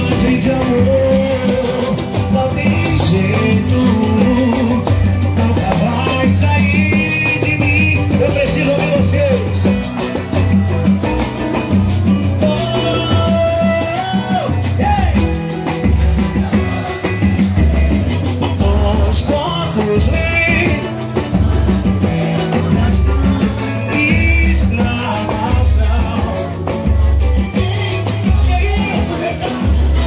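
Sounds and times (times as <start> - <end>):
person singing: 0.0 - 10.3, 12.4 - 30.0
deep bass beat: 0.0 - 30.0
nylon-string guitar: 0.0 - 30.0
percussion: 0.0 - 30.0.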